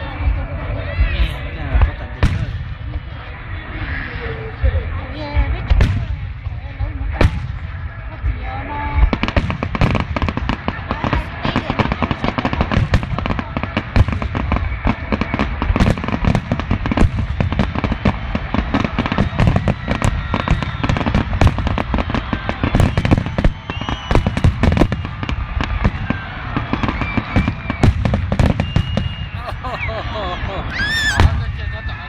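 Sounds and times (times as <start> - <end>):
fireworks barrage of bangs: 0.0 - 3.4, 5.0 - 32.0.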